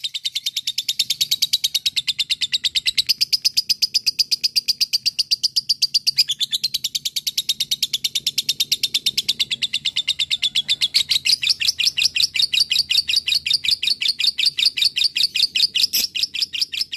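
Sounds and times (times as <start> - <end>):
lovebird chattering trill: 0.0 - 16.9
lower bird voice: 0.0 - 16.9.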